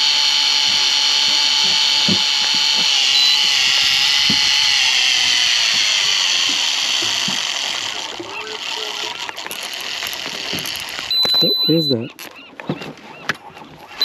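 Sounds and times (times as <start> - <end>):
fishing reel motor whining: 0.0 - 12.5.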